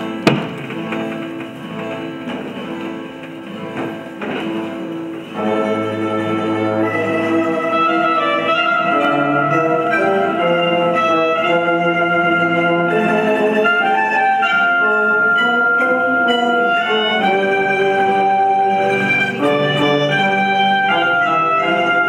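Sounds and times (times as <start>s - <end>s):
acoustic folk band playing: 0.0s - 22.0s.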